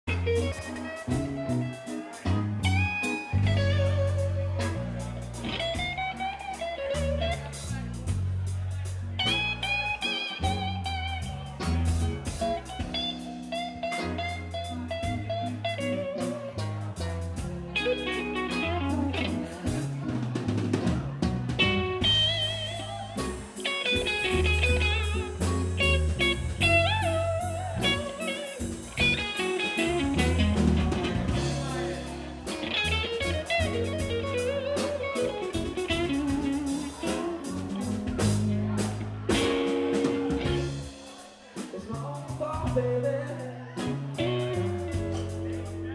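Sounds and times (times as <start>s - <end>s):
electric blues band playing: 0.0s - 45.9s
lead electric guitar bent notes: 0.1s - 7.8s, 9.2s - 41.0s, 43.8s - 45.9s.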